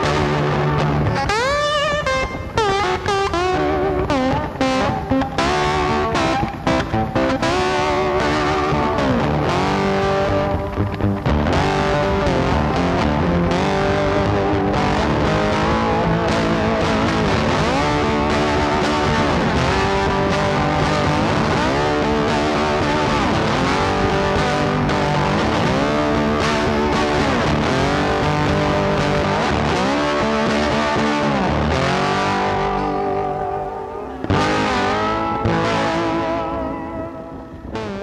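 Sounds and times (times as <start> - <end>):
electric guitar music: 0.0 - 38.0.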